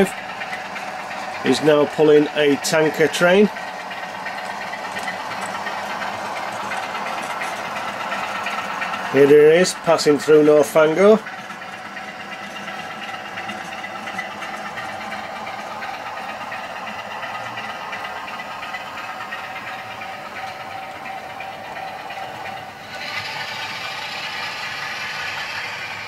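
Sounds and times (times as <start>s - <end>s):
model train diesel engine sound: 0.0s - 26.0s
wheels rattling over track: 0.0s - 26.0s.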